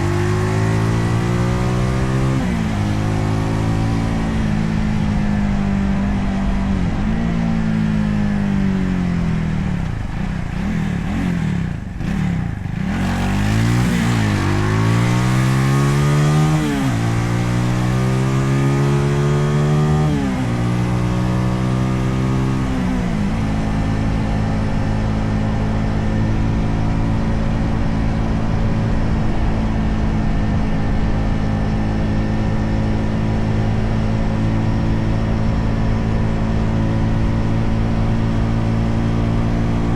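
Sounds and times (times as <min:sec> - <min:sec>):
motorcycle engine: 0:00.0 - 0:39.9
road and wind rumble: 0:00.0 - 0:39.9.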